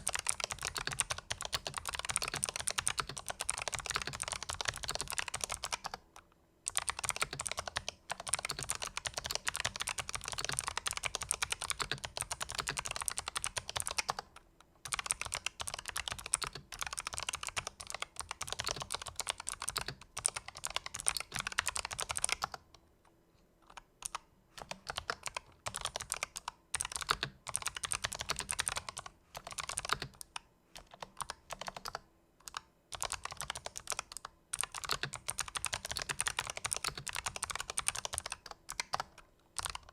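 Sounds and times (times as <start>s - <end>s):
clicky keyboard typing: 0.0s - 6.0s, 6.7s - 22.8s, 23.6s - 39.9s.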